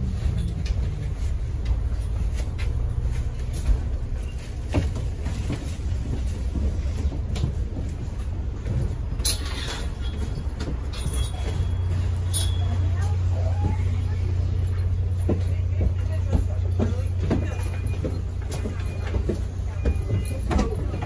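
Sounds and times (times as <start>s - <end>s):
bus engine and road rumble: 0.0s - 21.0s
knocks and rattles: 0.0s - 21.0s.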